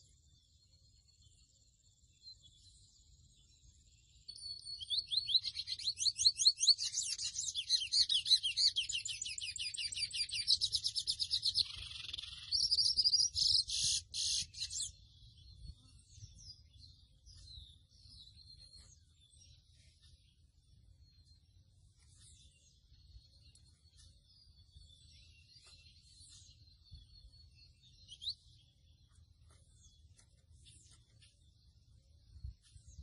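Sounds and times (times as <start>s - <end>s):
bird twittering song: 0.0s - 33.0s
faint bird chirps: 0.0s - 33.0s.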